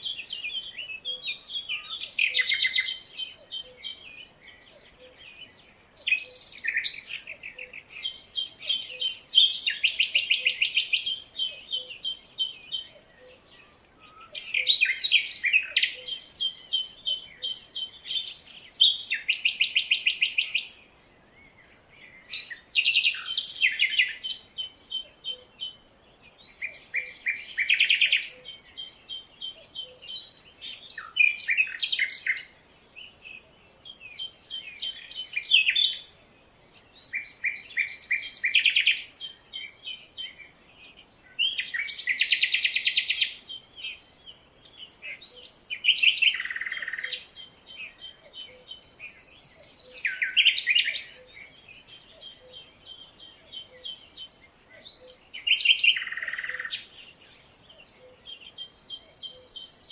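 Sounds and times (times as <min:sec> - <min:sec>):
songbirds trilling: 0:00.0 - 0:59.9.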